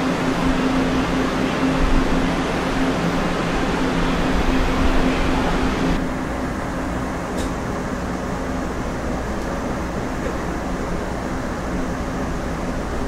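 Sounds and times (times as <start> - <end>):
faint steady hum: 0.0 - 13.0
train running rumble and hiss: 0.0 - 13.0.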